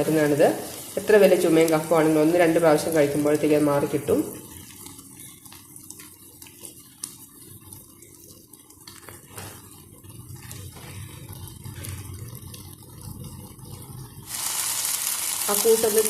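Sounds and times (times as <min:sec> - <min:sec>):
faint sizzling and bubbling: 0:00.0 - 0:16.0.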